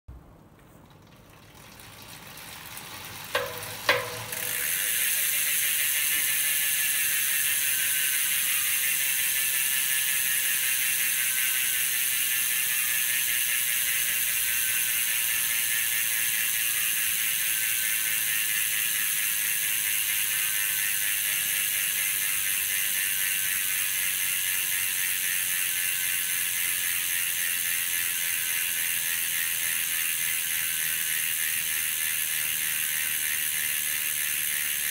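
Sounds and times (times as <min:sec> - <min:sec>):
freehub ratcheting buzz: 0:01.4 - 0:34.9.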